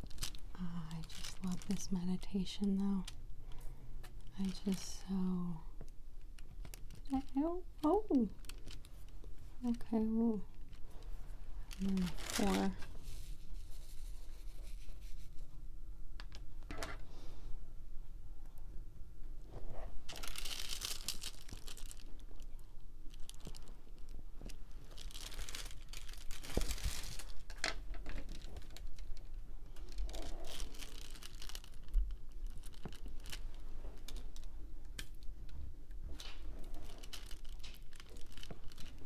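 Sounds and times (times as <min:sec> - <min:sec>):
plastic film peeling and crinkling: 0:00.0 - 0:05.2, 0:05.8 - 0:15.2, 0:20.0 - 0:39.0.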